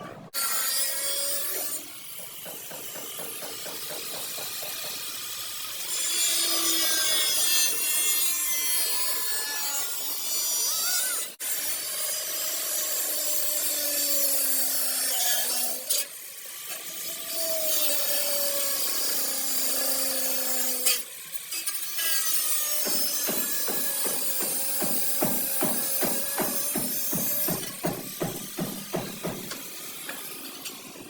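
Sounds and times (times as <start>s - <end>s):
abrasive tool on sheet metal: 0.0s - 31.0s.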